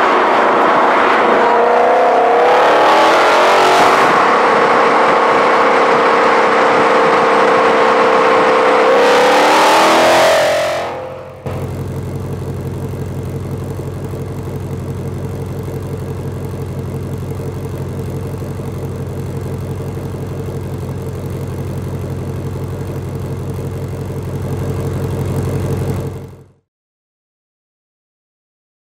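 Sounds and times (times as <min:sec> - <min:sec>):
car engine idling: 0:00.0 - 0:26.6.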